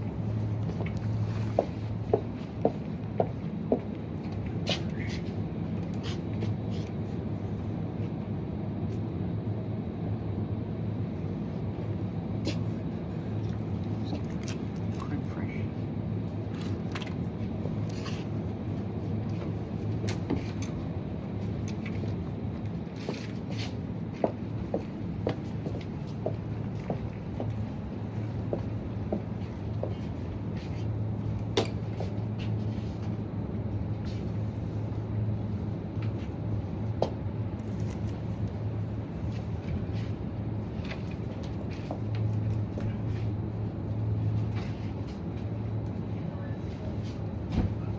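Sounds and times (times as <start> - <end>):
supermarket rumble and hum: 0.0 - 47.9.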